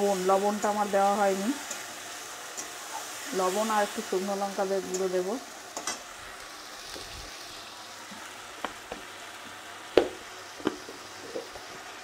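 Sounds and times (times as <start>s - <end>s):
curry sizzling and bubbling in pan: 0.0s - 12.0s.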